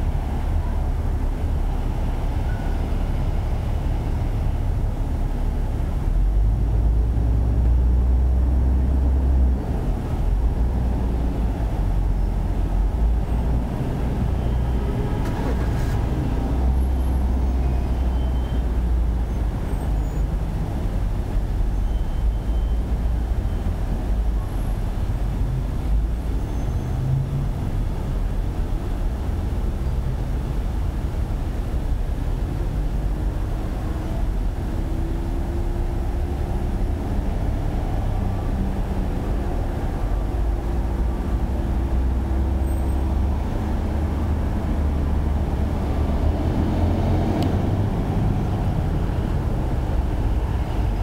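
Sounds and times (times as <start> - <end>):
street traffic rumble: 0.0 - 51.0.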